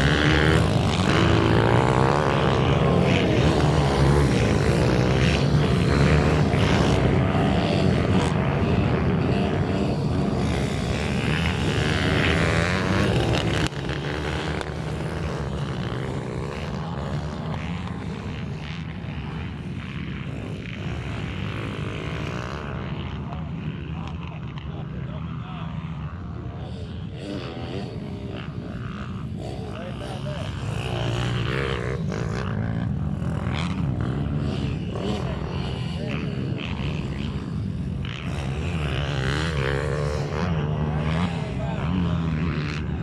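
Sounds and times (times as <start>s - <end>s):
minibike engines buzzing: 0.0s - 43.0s.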